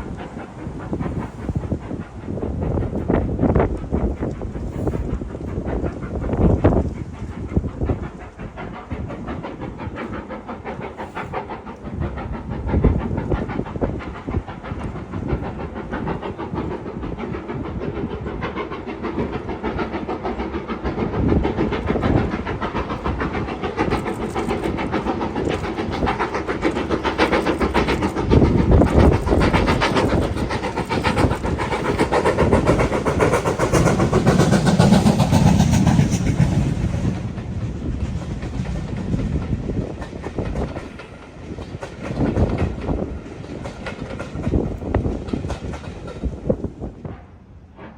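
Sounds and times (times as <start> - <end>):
rail clatter of wheels: 0.0 - 47.9
steam locomotive running: 0.0 - 47.9.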